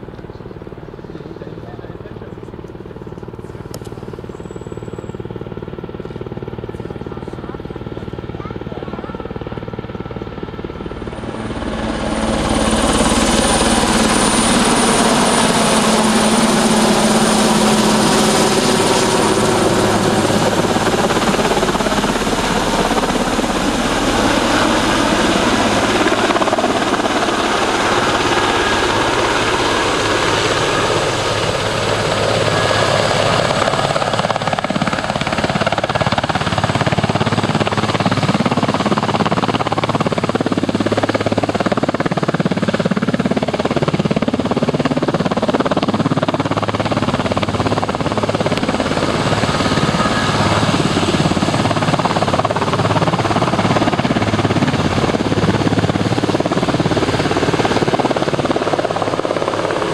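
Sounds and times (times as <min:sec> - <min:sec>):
helicopter rotor and turbine noise: 0:00.0 - 0:59.9.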